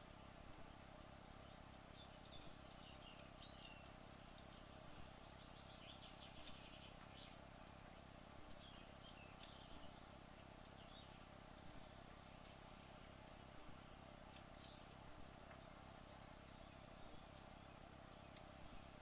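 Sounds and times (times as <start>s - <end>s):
faint steady hum: 0.0s - 19.0s
light ticks: 0.0s - 19.0s.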